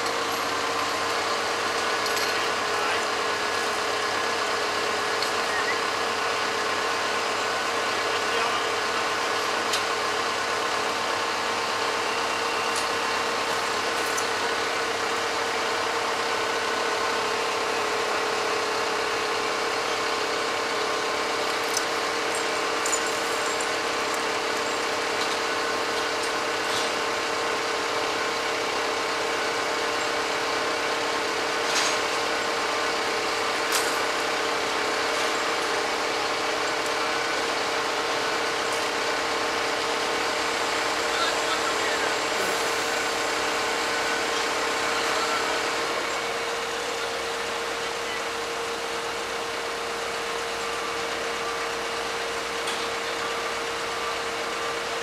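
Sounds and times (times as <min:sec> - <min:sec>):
hydraulic whine: 0:00.0 - 0:55.0
truck engine running: 0:00.0 - 0:55.0.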